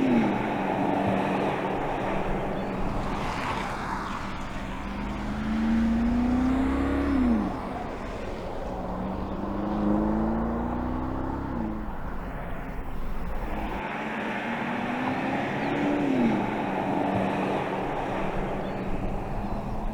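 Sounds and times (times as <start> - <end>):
car engine accelerating and upshifting: 0.0 - 19.9
road noise: 0.0 - 19.9.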